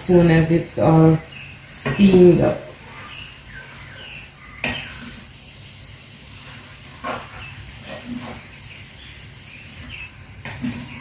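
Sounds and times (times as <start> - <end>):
pot steaming with hiss: 0.0 - 11.0.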